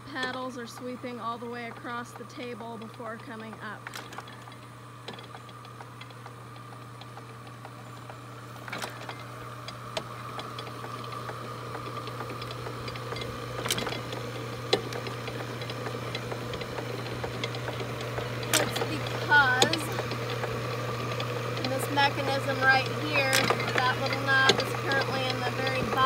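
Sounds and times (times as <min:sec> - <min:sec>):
gears clicking and clattering: 0:00.0 - 0:26.0
motor humming: 0:00.0 - 0:26.0.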